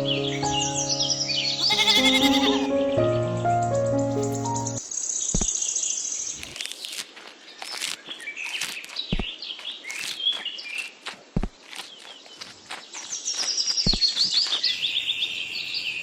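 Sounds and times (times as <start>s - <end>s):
small birds chirping: 0.0s - 11.0s, 11.6s - 16.0s.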